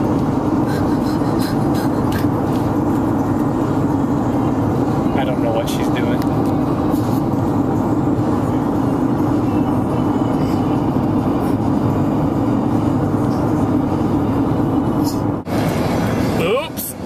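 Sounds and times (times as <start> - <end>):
road and engine noise in cabin: 0.0 - 17.0.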